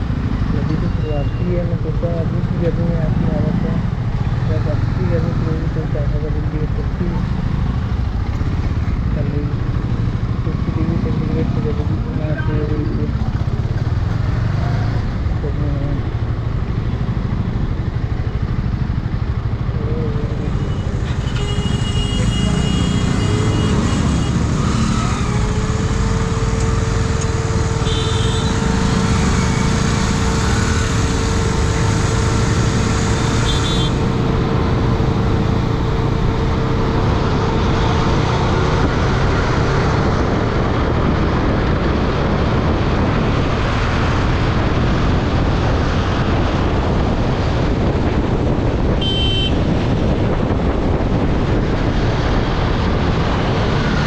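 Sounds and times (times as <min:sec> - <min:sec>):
motorcycle engine and road rumble: 0:00.0 - 0:54.0.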